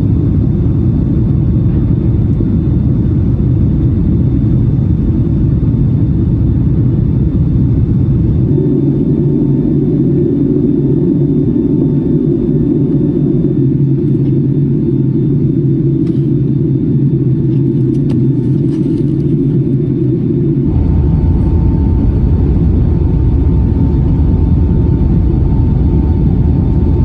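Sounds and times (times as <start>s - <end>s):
airplane cabin engine rumble: 0.0s - 27.0s
faint steady whine: 0.0s - 27.0s.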